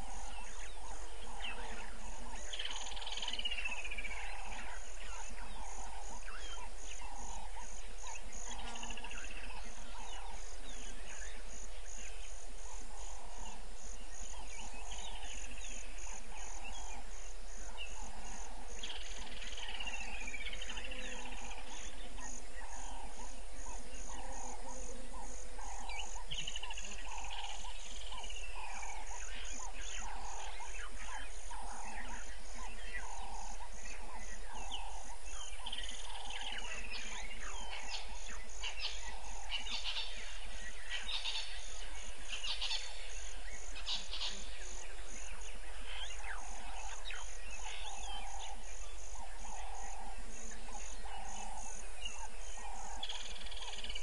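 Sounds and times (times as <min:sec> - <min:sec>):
bird chirps: 0:00.0 - 0:54.0
high pulsing insect call: 0:00.0 - 0:54.0
lower insect call: 0:00.0 - 0:54.0
steady low hum: 0:00.0 - 0:54.0.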